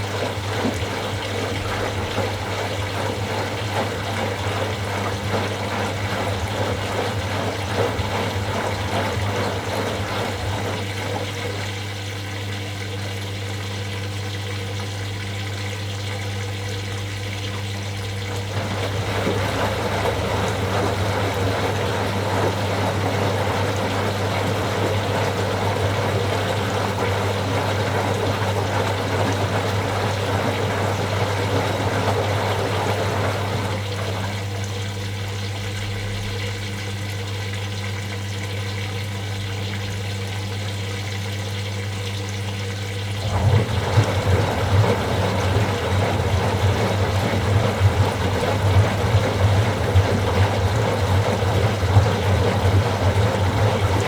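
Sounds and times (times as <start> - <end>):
washing machine low hum: 0.0 - 54.0
washing machine water sloshing: 0.0 - 54.0.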